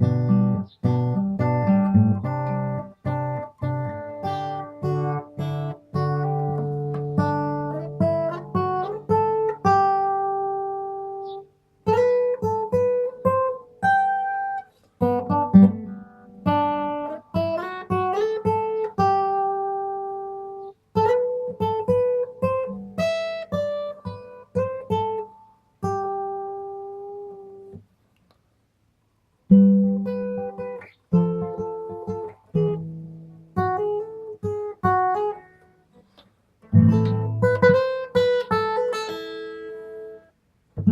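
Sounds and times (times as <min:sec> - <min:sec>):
acoustic guitar picking: 0:00.0 - 0:27.9, 0:29.5 - 0:40.9.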